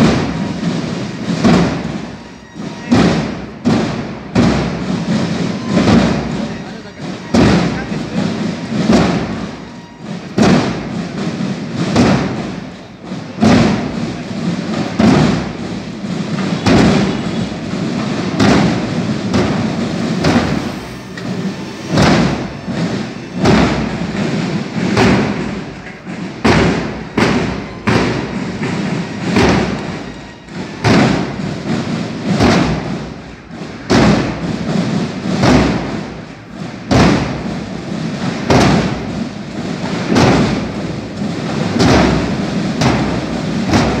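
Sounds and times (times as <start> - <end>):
marching band drums: 0.0 - 44.0.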